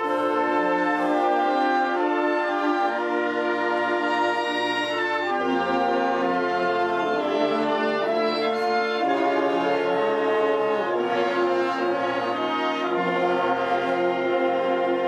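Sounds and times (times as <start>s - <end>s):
orchestral music with brass: 0.0s - 15.0s.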